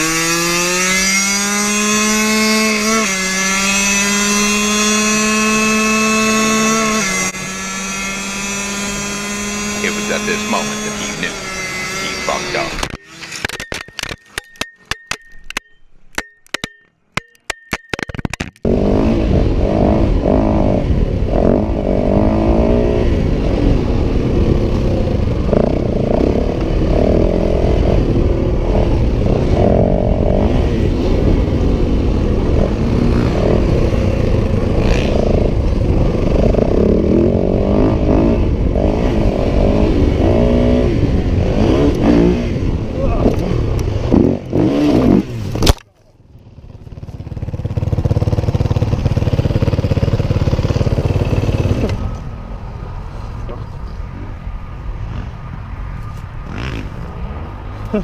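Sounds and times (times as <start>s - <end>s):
motorcycle engine revving: 0.0s - 13.6s, 18.5s - 52.6s, 56.4s - 58.0s.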